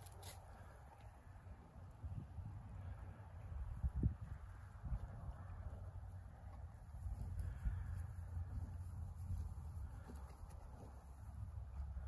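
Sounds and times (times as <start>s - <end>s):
wind rumble on microphone: 1.3s - 12.0s.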